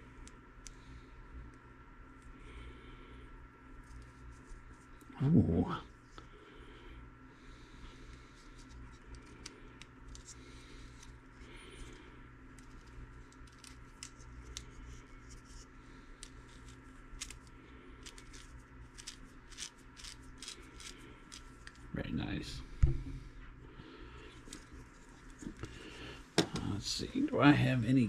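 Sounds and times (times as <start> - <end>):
steady faint hum: 0.0 - 28.0.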